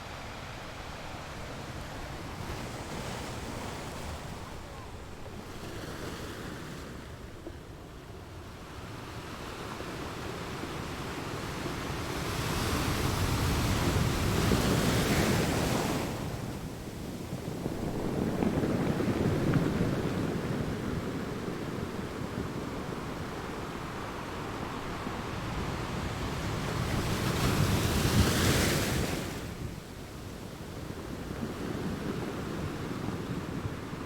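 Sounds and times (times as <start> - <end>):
ocean waves breaking on shore: 0.0 - 34.0.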